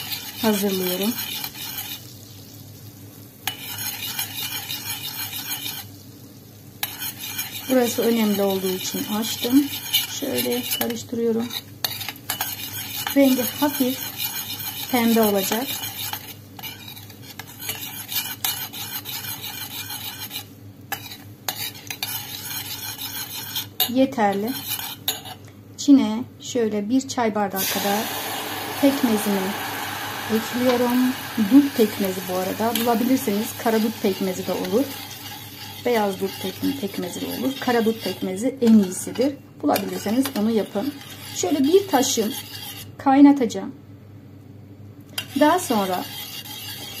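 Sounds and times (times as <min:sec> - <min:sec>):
utensil scraping a pot: 0:00.0 - 0:02.2, 0:03.4 - 0:06.0, 0:06.8 - 0:25.4, 0:27.6 - 0:43.0, 0:45.2 - 0:47.0
butter sizzling in a pot: 0:00.0 - 0:25.4, 0:27.6 - 0:43.0, 0:45.2 - 0:47.0.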